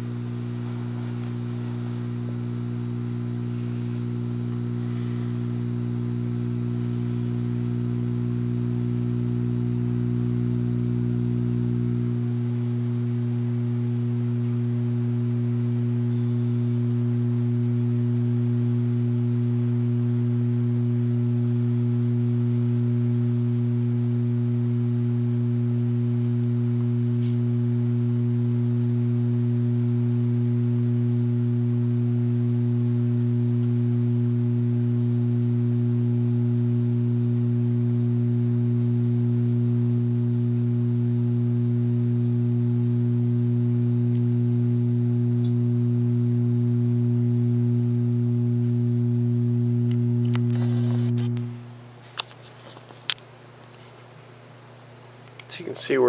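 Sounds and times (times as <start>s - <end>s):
light fixture mains hum: 0.0s - 56.0s.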